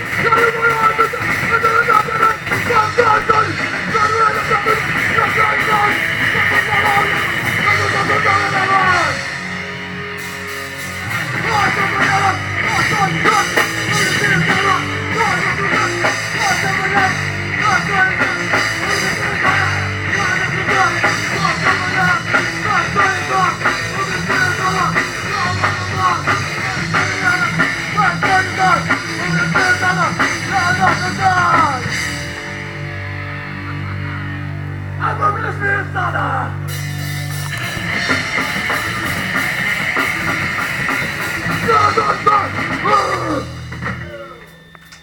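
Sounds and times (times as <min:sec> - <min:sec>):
electric guitar bending notes: 0:00.0 - 0:45.0
rock band playing live: 0:00.0 - 0:45.0.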